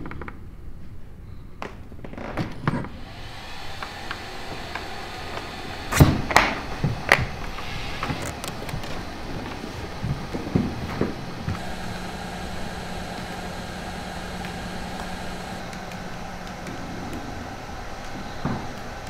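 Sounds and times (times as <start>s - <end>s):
steady hiss: 2.8s - 19.0s.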